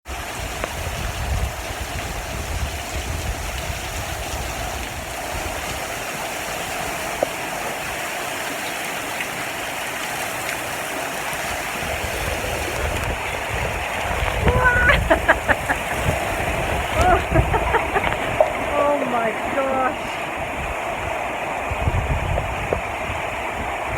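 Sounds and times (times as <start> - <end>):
heavy rain pouring: 0.1 - 23.9.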